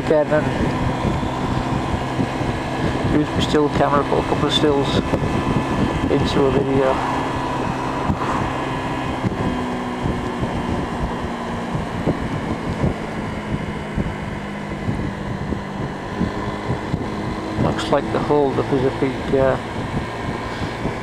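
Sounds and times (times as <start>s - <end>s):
scooter engine running: 0.0s - 21.0s
wind rushing over microphone: 0.0s - 21.0s.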